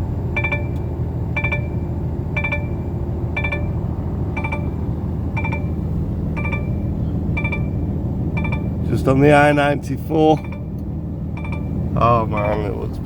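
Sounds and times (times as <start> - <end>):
truck engine humming: 0.0 - 13.0
dashboard warning chime: 0.3 - 9.5, 10.2 - 13.0.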